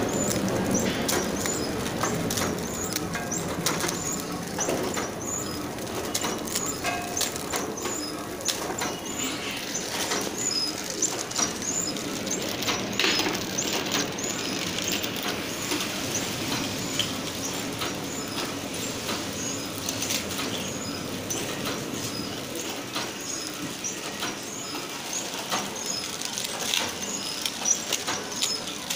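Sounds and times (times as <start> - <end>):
packing machine clattering: 0.0 - 28.9.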